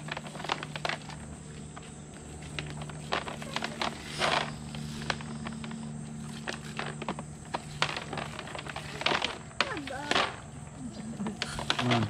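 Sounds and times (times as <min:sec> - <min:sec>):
berries pattering into plastic tub: 0:00.0 - 0:12.0
dry stems rustling: 0:00.0 - 0:12.0.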